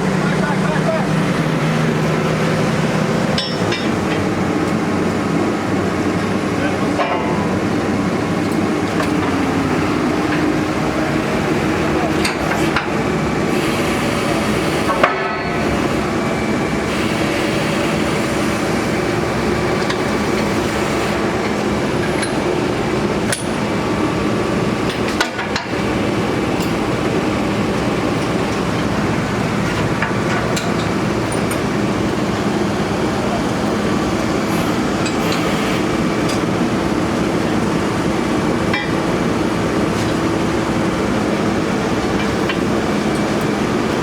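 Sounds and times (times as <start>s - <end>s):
drilling rig engine running: 0.0s - 44.0s.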